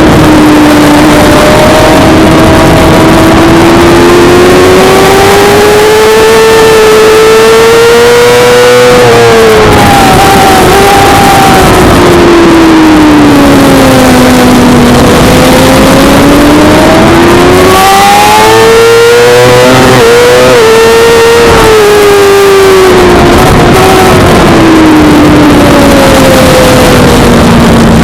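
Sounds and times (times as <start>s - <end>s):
motorcycle engine racing: 0.0s - 28.0s
rushing noise: 0.0s - 28.0s.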